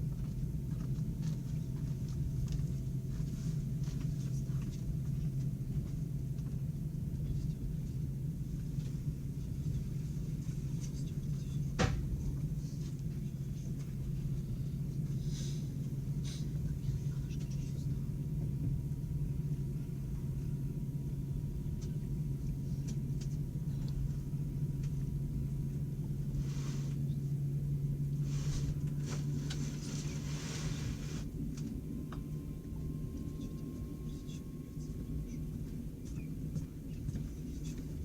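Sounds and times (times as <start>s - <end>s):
train carriage hum and rumble: 0.0s - 38.0s.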